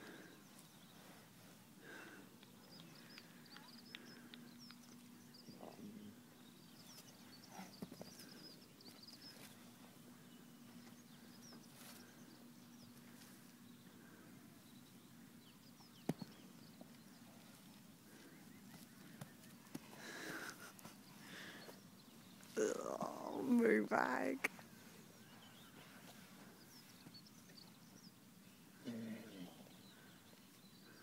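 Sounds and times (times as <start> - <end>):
faint bird chirps: 1.9 - 23.4, 24.9 - 31.0.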